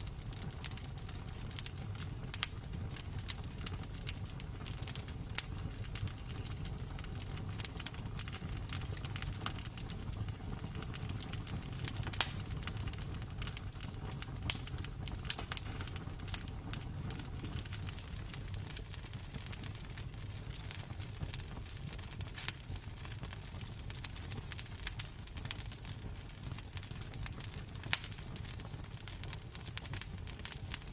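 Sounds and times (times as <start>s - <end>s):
wood fire crackling: 0.0s - 30.9s.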